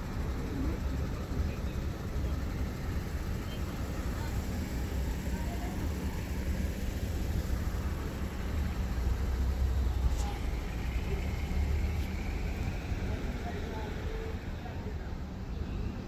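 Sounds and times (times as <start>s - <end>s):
low rumble of car traffic: 0.0s - 16.0s.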